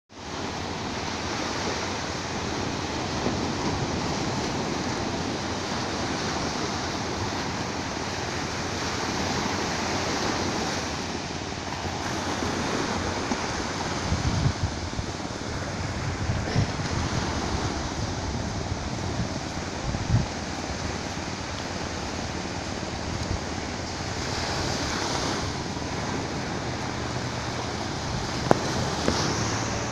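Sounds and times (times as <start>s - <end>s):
small waves washing up beach: 0.1s - 29.9s
wind gusts buffeting microphone: 0.2s - 29.9s.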